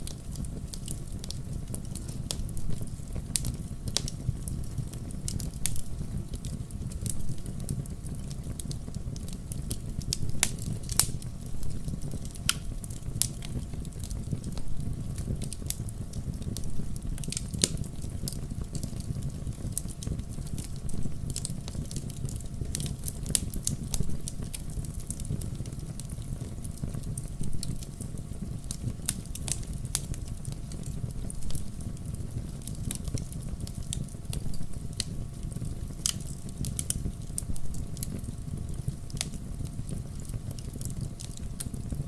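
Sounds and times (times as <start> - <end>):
low rumble of flames: 0.0 - 42.0
wood crackling and popping: 0.0 - 42.0.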